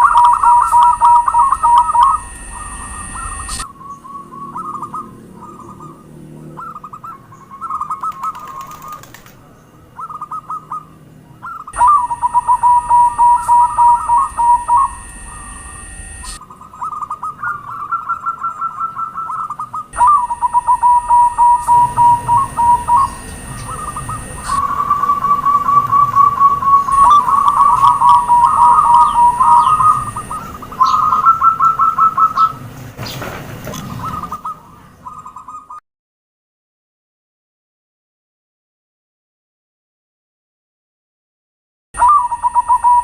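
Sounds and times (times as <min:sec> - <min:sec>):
doves cooing: 0:00.0 - 0:35.8, 0:42.0 - 0:43.0.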